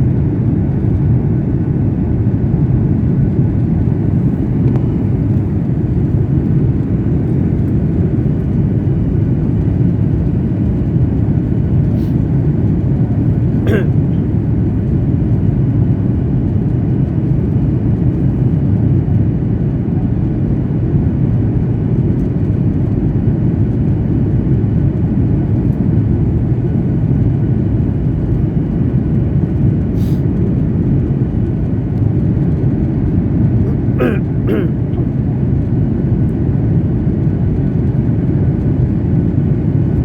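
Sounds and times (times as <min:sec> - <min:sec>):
airliner cabin engine noise: 0:00.0 - 0:40.0.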